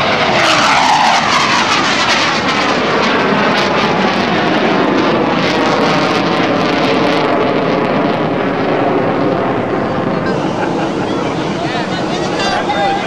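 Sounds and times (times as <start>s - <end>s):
jet engines roaring overhead: 0.0s - 13.0s.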